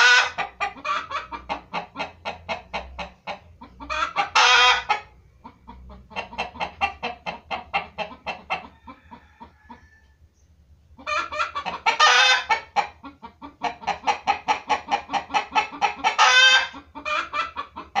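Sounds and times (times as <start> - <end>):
chicken squawk: 0.0 - 10.2, 11.0 - 18.0
chickens clucking: 0.0 - 18.0.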